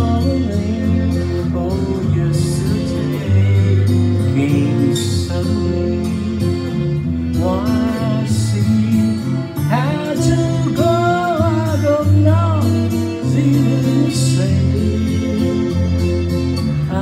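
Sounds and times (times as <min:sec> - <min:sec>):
instrumental backing track: 0:00.0 - 0:17.0
man singing into microphone: 0:00.0 - 0:17.0.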